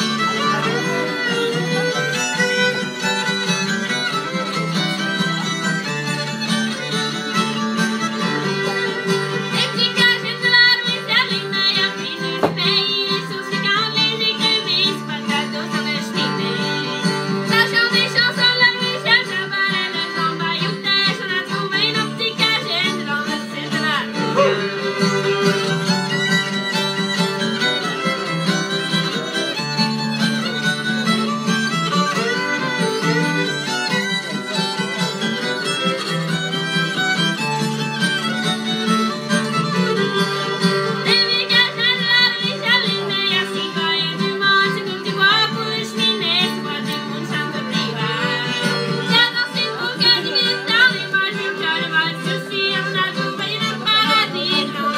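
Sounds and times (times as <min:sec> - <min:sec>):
acoustic guitar: 0:00.0 - 0:54.9
fiddles playing: 0:00.0 - 0:54.9.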